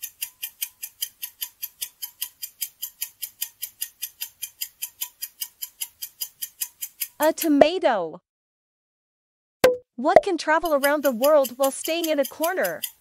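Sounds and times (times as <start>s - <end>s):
clock ticking: 0.0s - 7.8s, 9.7s - 13.0s.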